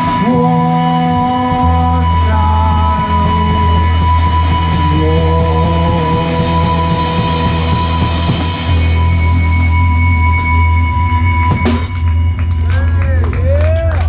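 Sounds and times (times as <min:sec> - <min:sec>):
electric guitar sliding notes: 0:00.0 - 0:14.0
steady bass: 0:00.0 - 0:14.0.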